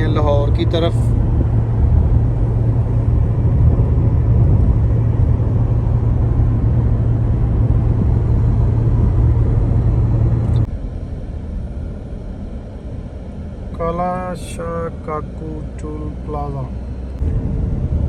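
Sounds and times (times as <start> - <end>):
car driving on highway: 0.0 - 18.0.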